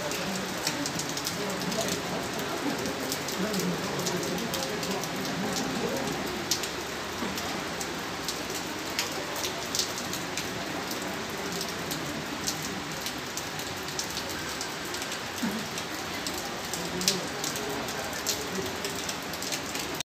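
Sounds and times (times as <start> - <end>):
rain on wet paving and puddles: 0.0 - 20.0.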